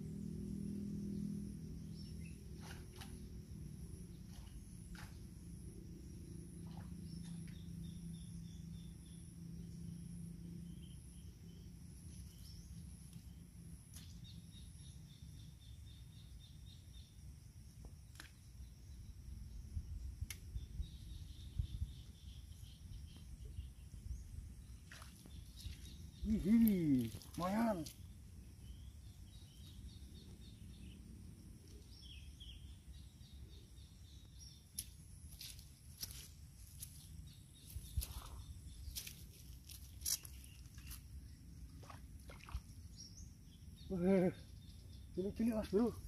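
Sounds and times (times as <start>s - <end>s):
high insect drone: 0.0s - 46.0s
rapid insect chirping: 0.0s - 46.0s.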